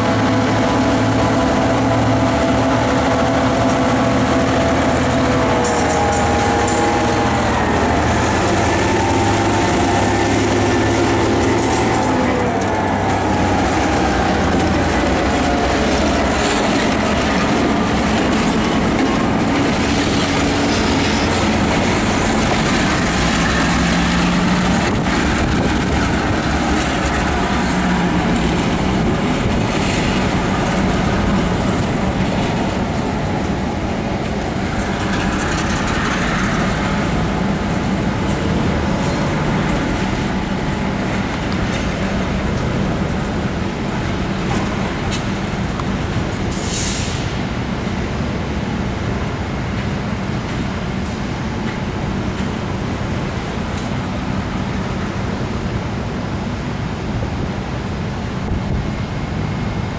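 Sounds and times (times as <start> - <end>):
diesel locomotive engine drone: 0.0 - 59.9
train wheels rumbling on rails: 0.0 - 59.9.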